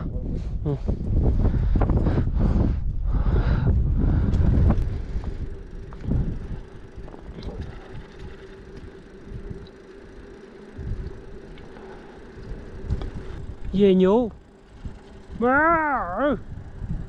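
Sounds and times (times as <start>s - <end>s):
wind buffeting microphone: 0.0s - 17.0s
faint steady hum: 0.9s - 17.0s.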